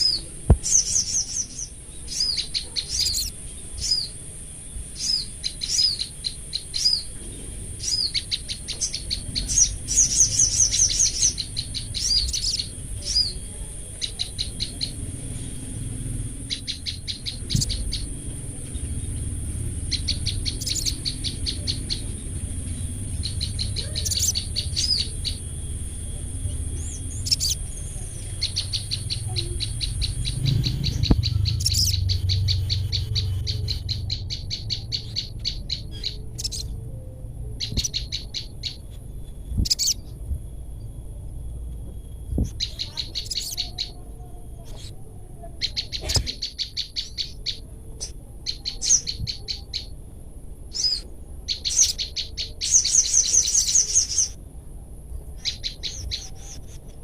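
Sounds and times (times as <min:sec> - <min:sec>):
birds calling sharp repeated notes: 0:00.0 - 0:54.5, 0:55.1 - 0:57.0.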